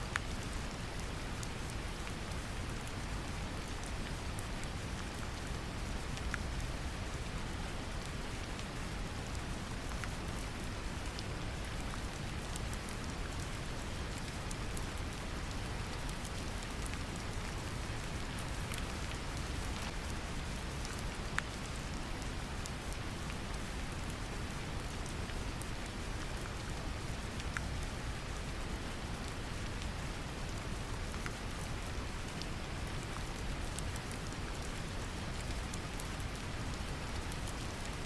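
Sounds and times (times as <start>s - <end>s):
gentle rain falling: 0.0s - 38.0s.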